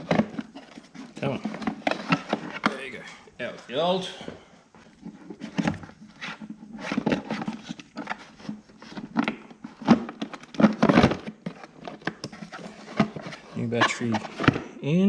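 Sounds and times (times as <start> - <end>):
battery knocking and scraping: 0.0 - 3.0, 4.7 - 14.7.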